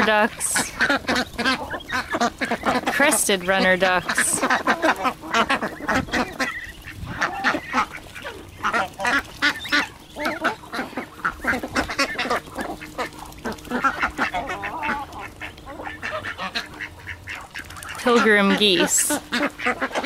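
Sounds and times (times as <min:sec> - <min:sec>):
ducks quacking: 0:00.0 - 0:20.0
geese honking: 0:00.0 - 0:20.0.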